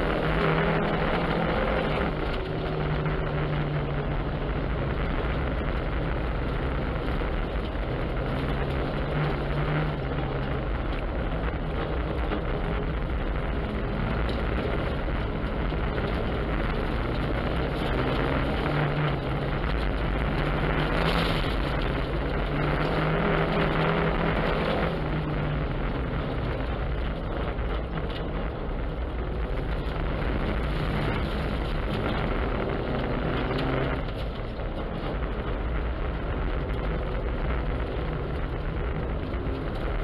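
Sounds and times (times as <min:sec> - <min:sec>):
car engine under load: 0:00.0 - 0:40.0.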